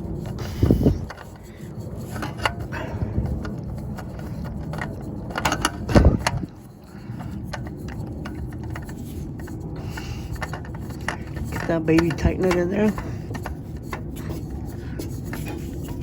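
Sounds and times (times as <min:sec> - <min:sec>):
clicks and knocks of handled parts: 0:00.0 - 0:16.0
steady low rumble: 0:00.0 - 0:16.0.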